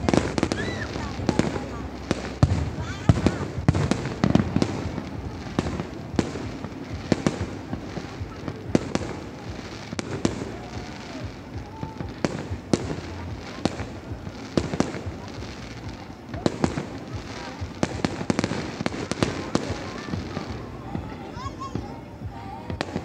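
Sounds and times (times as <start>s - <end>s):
crackle of small fireworks: 0.0s - 23.0s
firework bangs: 0.0s - 23.0s.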